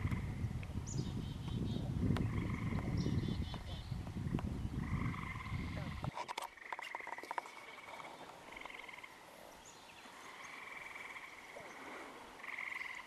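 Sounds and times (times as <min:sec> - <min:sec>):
frogs trilling: 0:01.5 - 0:13.0.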